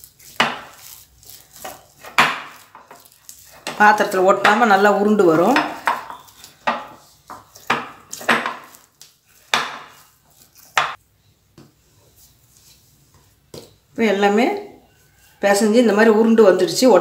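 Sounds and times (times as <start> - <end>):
hands kneading sticky dough: 0.0 - 14.0.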